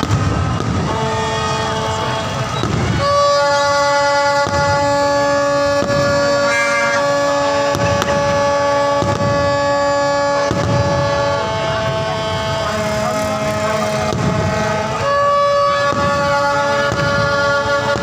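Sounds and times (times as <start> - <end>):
horns blowing long notes: 0.0 - 18.0
sharp bangs: 0.0 - 18.0.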